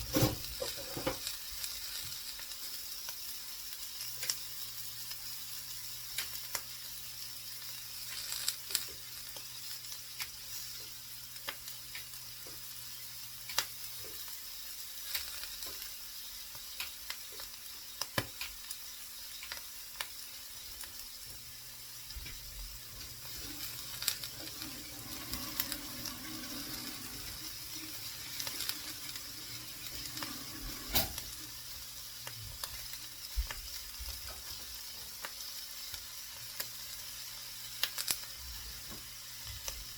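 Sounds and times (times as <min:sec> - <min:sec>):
food sizzling in a pan: 0:00.0 - 0:39.9
oil popping and crackling: 0:00.0 - 0:39.9.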